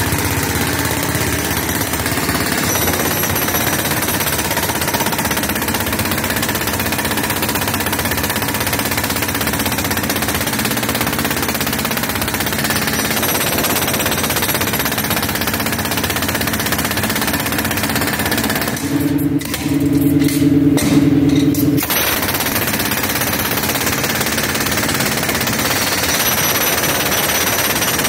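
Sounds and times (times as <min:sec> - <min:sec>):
jackhammer breaking concrete: 0:00.0 - 0:28.0.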